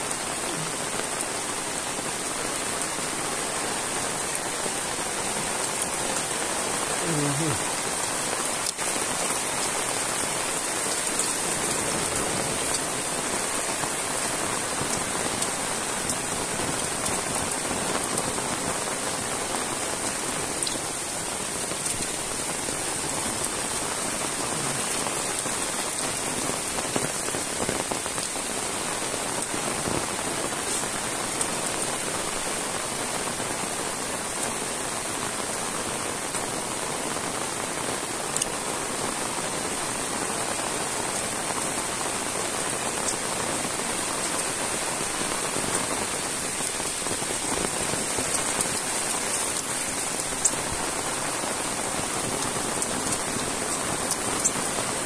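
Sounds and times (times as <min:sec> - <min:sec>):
close raindrop hits: 0:00.0 - 0:34.6, 0:41.1 - 0:55.0
heavy rain on ground: 0:00.0 - 0:55.0.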